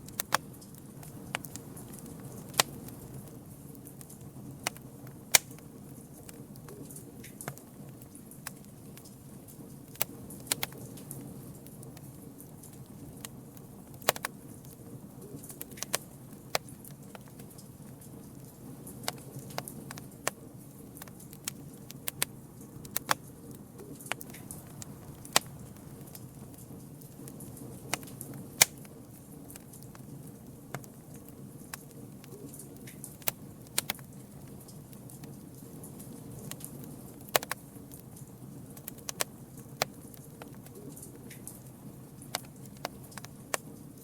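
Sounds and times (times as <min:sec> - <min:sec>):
campfire crackling: 0:00.0 - 0:44.0
low rumble of flames: 0:00.0 - 0:44.0.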